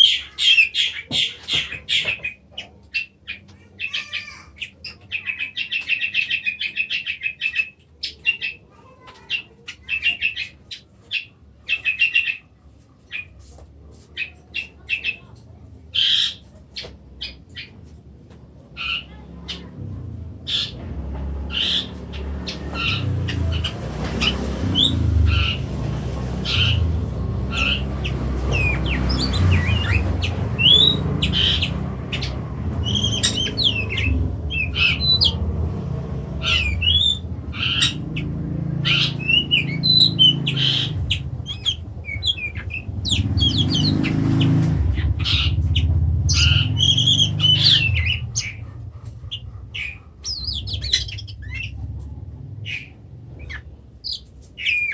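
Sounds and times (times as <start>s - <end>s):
bird sharp calls and twittering: 0.0s - 54.9s.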